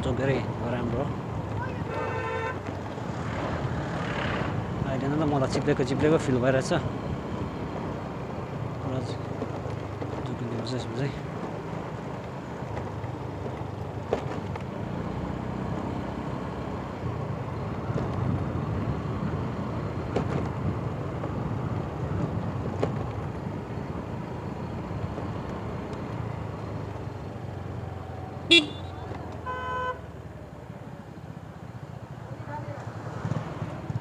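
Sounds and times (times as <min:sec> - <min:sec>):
road and wind noise: 0:00.0 - 0:34.0.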